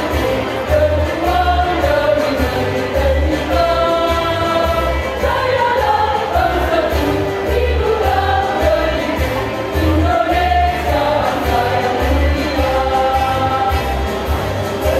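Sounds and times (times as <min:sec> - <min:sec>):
women's choir singing: 0:00.0 - 0:14.9.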